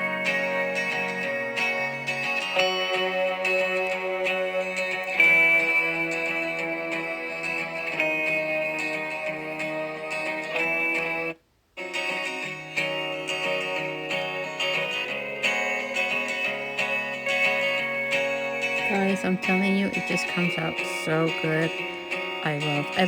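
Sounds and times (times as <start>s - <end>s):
background guitar music: 0.0s - 23.0s.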